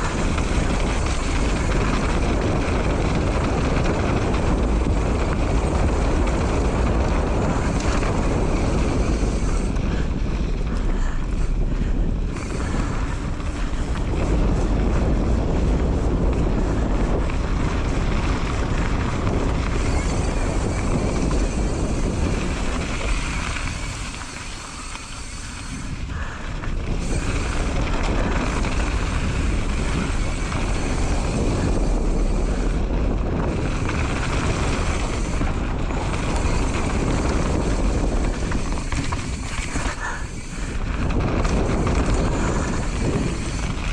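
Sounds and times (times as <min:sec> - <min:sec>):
mountain bike rumble on trail: 0:00.0 - 0:43.9
wind on microphone: 0:00.0 - 0:43.9.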